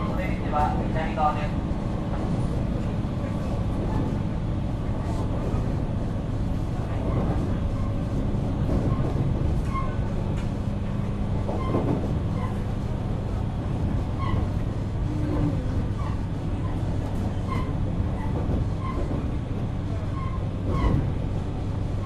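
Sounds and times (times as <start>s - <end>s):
train motor humming: 0.0s - 22.0s
wheels rumbling on track: 0.0s - 22.0s.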